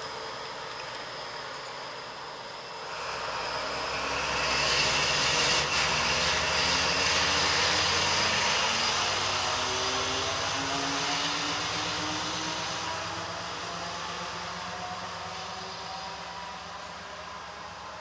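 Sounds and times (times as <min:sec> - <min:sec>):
rising whine: 0:00.0 - 0:18.0
vehicle engine rumble: 0:00.0 - 0:18.0.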